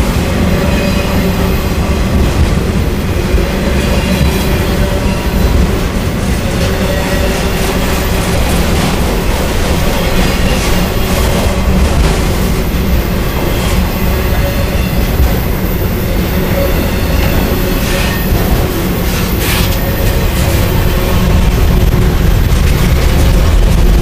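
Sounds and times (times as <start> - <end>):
rumble of steel wheels on rail: 0.0 - 24.0
wheels clacking over rail joints: 0.0 - 24.0.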